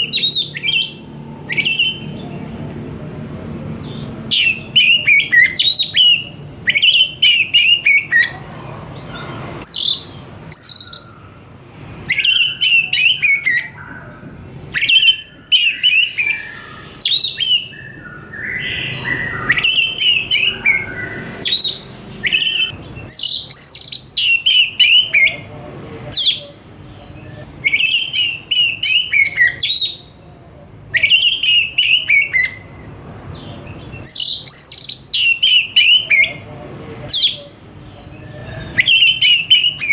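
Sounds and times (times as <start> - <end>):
bird singing whistled phrases: 0.0 - 2.2, 3.8 - 8.4, 9.1 - 11.4, 12.1 - 25.4, 26.1 - 30.1, 31.0 - 32.7, 34.0 - 36.4, 38.1 - 39.9.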